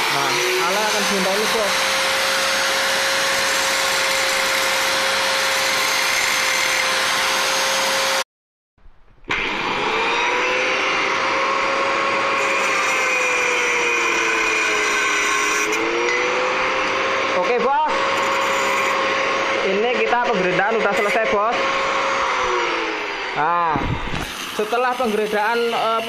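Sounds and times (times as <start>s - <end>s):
angle grinder cutting metal: 0.0s - 8.2s, 9.3s - 26.0s.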